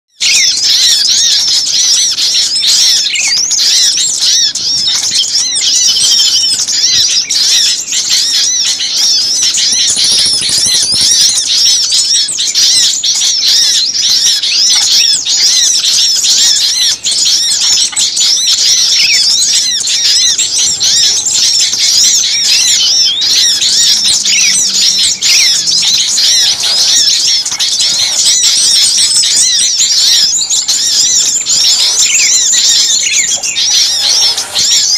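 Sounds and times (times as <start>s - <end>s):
chorus of small songbirds chirping: 0.1s - 34.9s.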